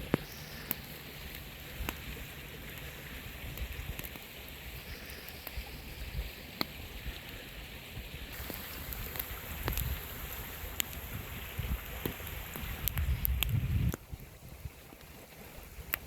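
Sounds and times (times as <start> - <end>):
mountain river rushing: 0.0 - 13.2.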